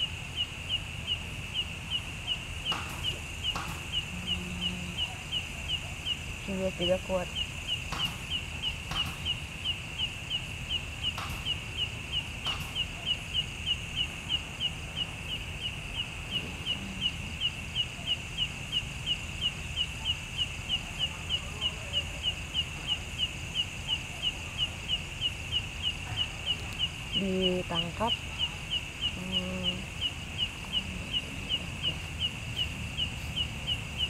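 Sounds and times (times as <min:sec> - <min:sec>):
animal chirping: 0:00.0 - 0:34.0.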